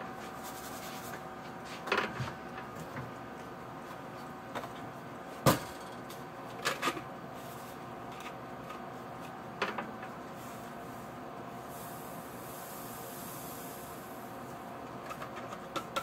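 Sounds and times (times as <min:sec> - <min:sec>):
steady faint hum: 0:00.0 - 0:16.0.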